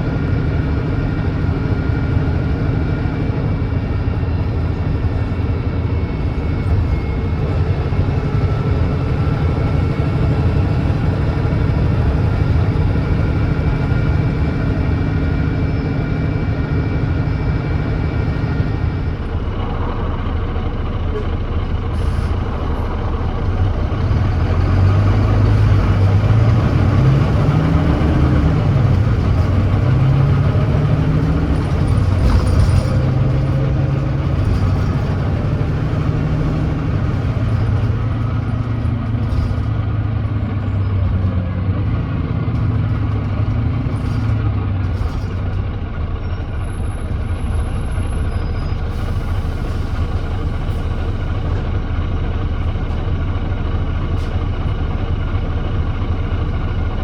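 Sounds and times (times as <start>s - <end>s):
diesel bus engine accelerating: 0.0s - 57.0s.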